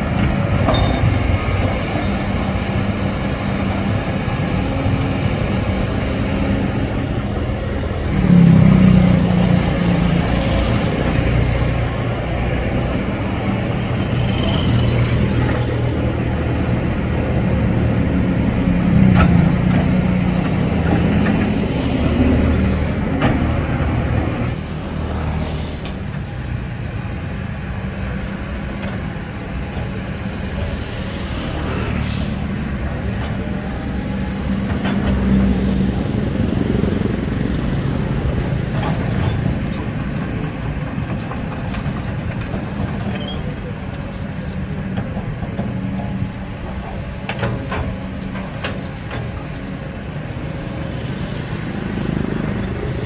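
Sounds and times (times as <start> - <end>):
excavator diesel engine droning: 0.0 - 53.0
excavator digging soil: 0.0 - 53.0.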